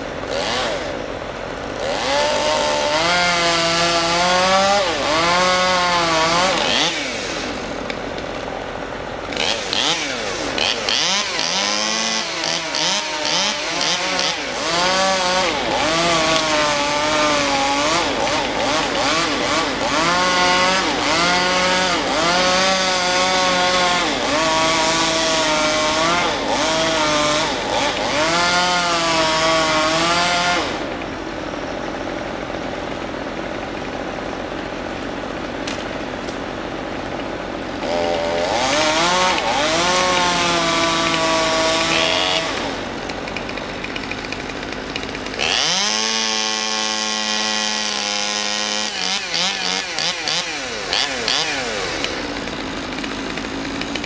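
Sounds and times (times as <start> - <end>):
chainsaw cutting: 0.0 - 54.0.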